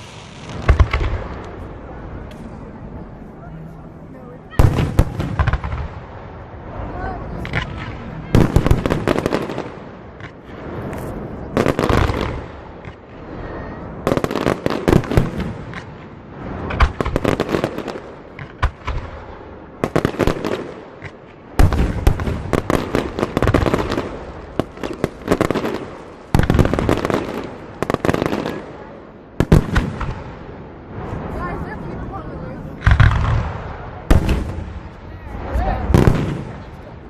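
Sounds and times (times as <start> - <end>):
fireworks bursting: 0.0 - 2.8, 4.5 - 31.8, 32.7 - 37.0
fireworks crackling: 0.0 - 37.0.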